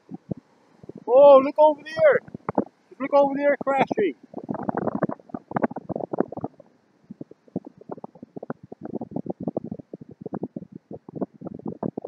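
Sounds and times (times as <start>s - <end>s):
wind buffeting microphone: 0.0s - 2.8s, 3.6s - 12.0s.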